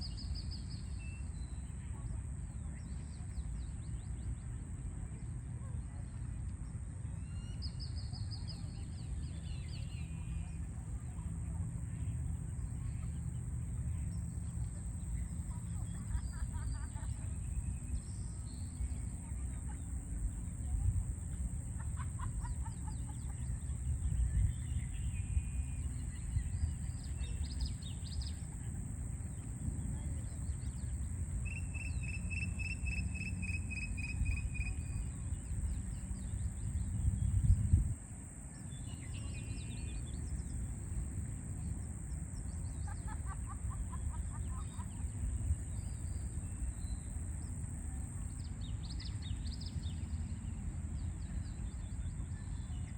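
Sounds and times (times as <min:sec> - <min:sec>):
low rumble of city traffic: 0:00.0 - 0:52.9.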